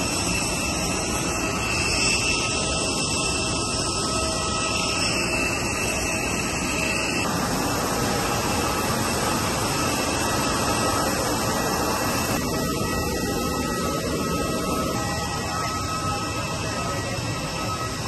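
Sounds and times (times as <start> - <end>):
high whining tones: 0.0 - 18.0
jet turbine rushing: 0.0 - 18.0.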